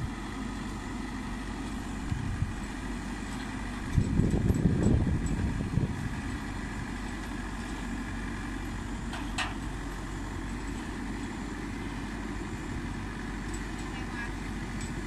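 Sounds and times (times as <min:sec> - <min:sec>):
harvester diesel engine running: 0:00.0 - 0:15.0.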